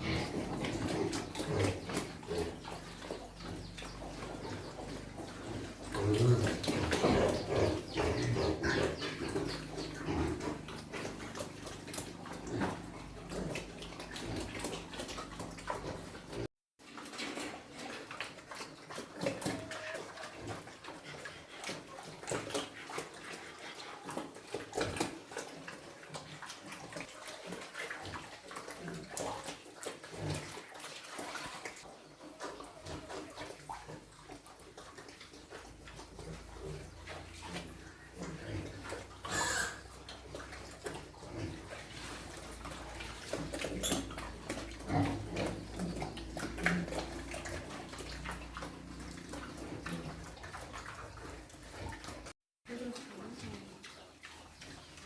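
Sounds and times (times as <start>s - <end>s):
pigs grunting: 0.0s - 55.0s
wet feed sloshing: 0.0s - 55.0s.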